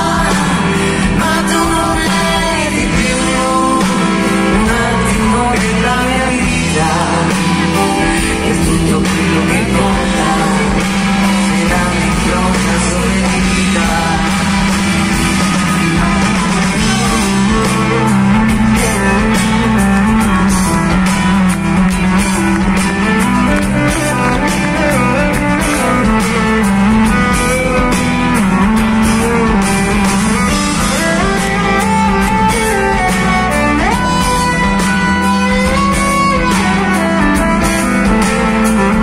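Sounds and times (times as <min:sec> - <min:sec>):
band playing pop-rock ballad: 0:00.0 - 0:39.0
electric guitar: 0:00.0 - 0:39.0
steady drums: 0:00.0 - 0:39.0.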